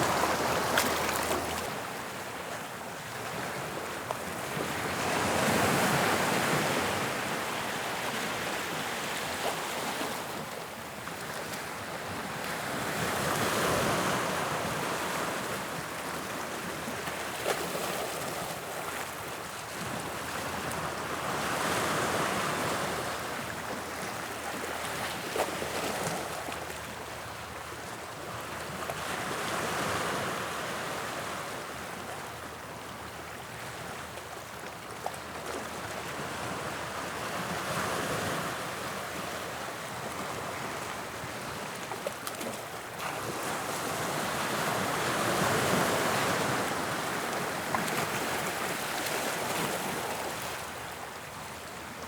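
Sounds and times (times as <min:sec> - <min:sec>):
sea waves breaking on shore: 0:00.0 - 0:32.2, 0:34.9 - 0:52.0.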